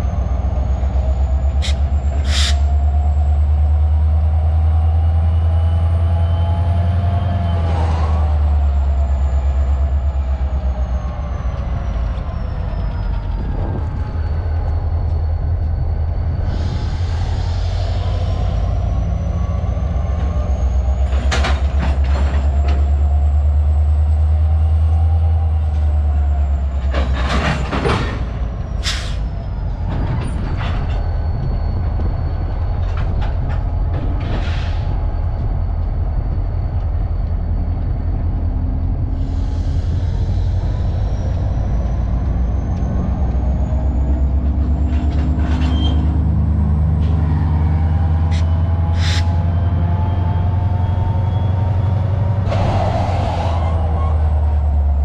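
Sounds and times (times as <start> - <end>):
locomotive engine rumbling: 0.0 - 55.0.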